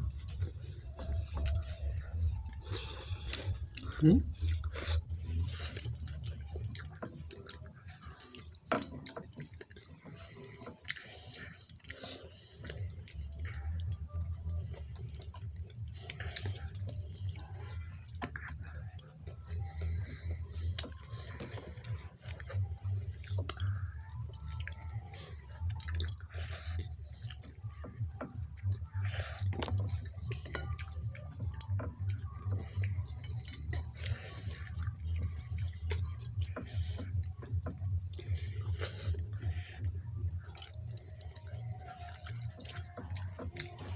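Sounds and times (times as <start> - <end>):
low steady hum: 0.0 - 43.9
wet eating and chewing: 0.0 - 43.9.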